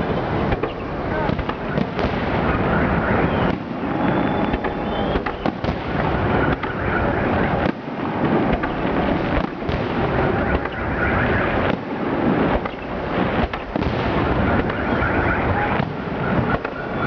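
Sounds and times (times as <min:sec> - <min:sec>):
faint firework whistle: 0:00.0 - 0:11.8, 0:12.5 - 0:17.0
fireworks bangs and crackles: 0:00.0 - 0:17.0.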